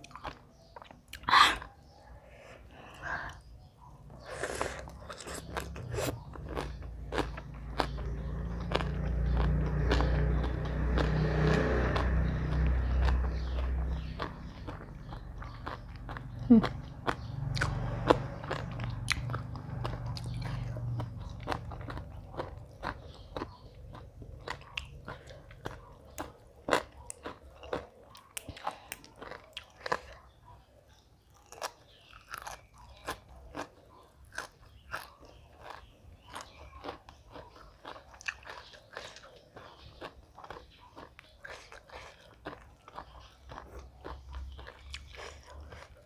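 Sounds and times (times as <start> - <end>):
chewing crisp food: 0.0 - 46.0.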